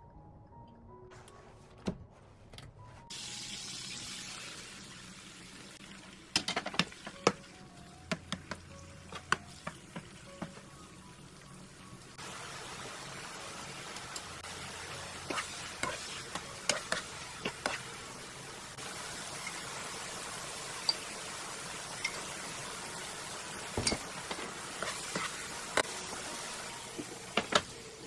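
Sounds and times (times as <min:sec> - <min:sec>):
food sizzling in a frying pan: 0:03.1 - 0:28.0.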